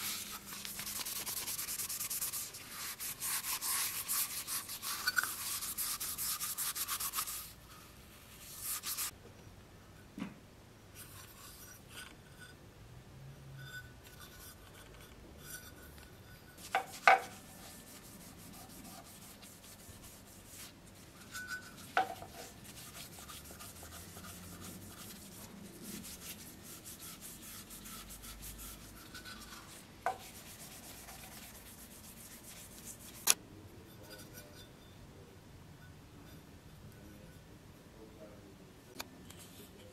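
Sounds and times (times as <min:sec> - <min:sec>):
faint rubbing of metal: 0:00.0 - 0:09.2, 0:10.9 - 0:12.6, 0:13.5 - 0:37.6, 0:39.2 - 0:39.9.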